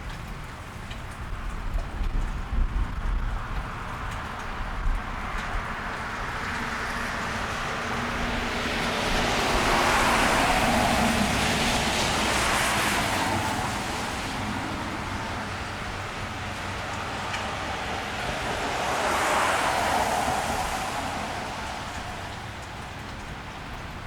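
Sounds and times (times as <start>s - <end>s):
rain: 0.0s - 24.0s
tyres hissing on wet road: 3.4s - 24.0s.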